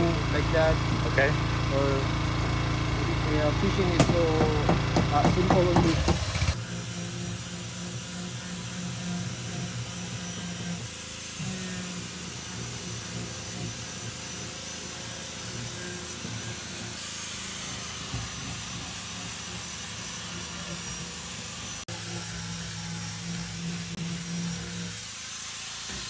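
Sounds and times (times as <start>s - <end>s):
angle grinder sanding wood: 0.0s - 26.0s.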